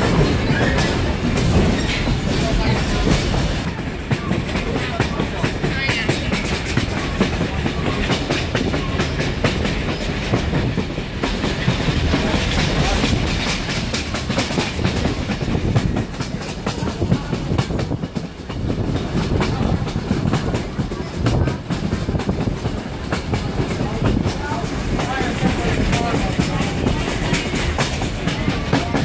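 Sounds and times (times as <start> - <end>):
train wheels clickety-clack: 0.0 - 29.0.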